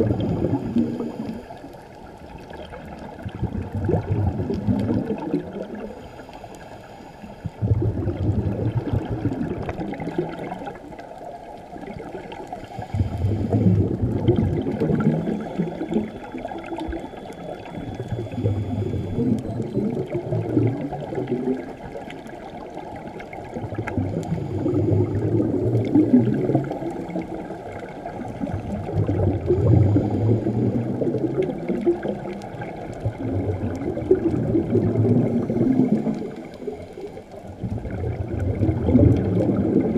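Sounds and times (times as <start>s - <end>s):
scuba regulator bubbling underwater: 0.0s - 39.9s.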